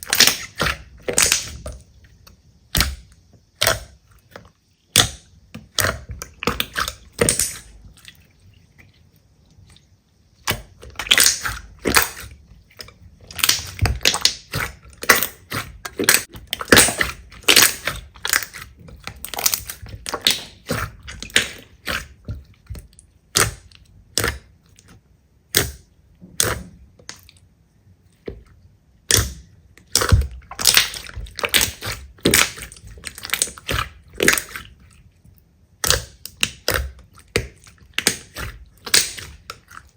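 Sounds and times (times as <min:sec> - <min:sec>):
slime squishing with wet clicks: 0:00.0 - 0:39.9.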